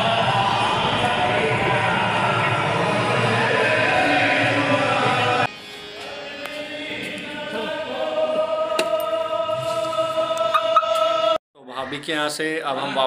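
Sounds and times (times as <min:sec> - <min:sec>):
congregation chanting in chorus: 0:00.0 - 0:11.4.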